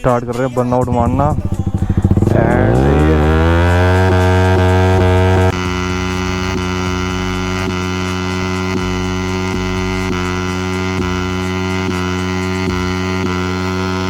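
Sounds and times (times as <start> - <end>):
faint beat: 0.0 - 13.2
droning chord music: 0.9 - 14.0.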